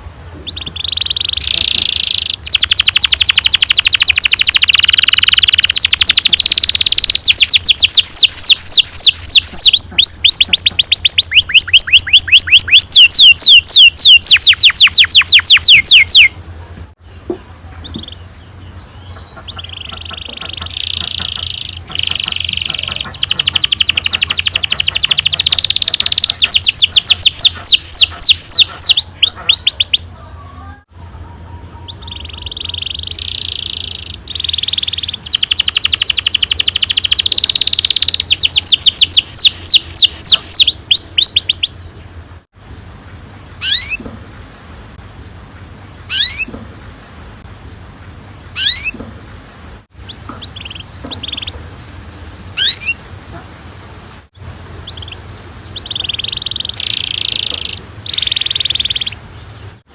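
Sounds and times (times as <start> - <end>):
canary singing rolls: 0.4 - 16.3, 17.2 - 30.1, 31.8 - 41.8, 43.1 - 44.4, 45.6 - 47.0, 48.0 - 49.3, 49.9 - 59.2.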